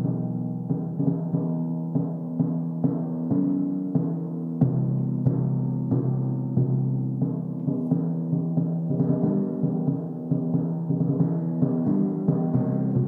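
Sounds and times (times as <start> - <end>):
timpani played with mallets: 0.0 - 13.0.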